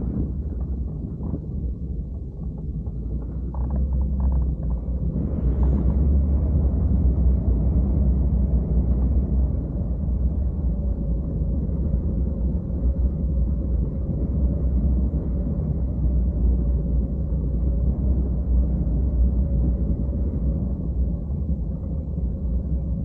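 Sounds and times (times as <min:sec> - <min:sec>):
faint steady hum: 0:00.0 - 0:23.0
wind rumble on microphone: 0:00.0 - 0:23.0.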